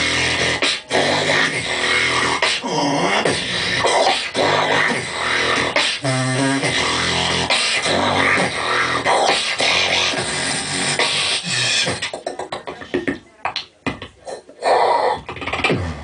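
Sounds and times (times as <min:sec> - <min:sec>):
beatboxing into a microphone: 0:00.0 - 0:16.0.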